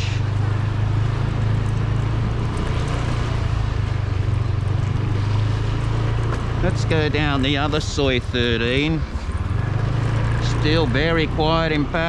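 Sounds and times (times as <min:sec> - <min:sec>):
low engine hum: 0:00.0 - 0:12.0
street noise: 0:00.0 - 0:12.0.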